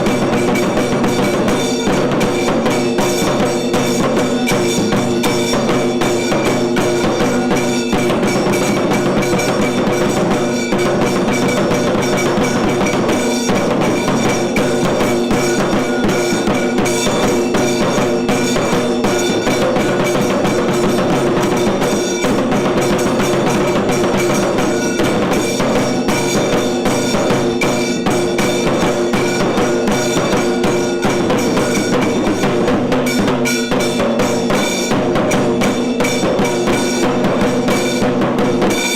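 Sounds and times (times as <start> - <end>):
fast temple drumming: 0.0 - 38.9
held ringing tones: 0.0 - 38.9.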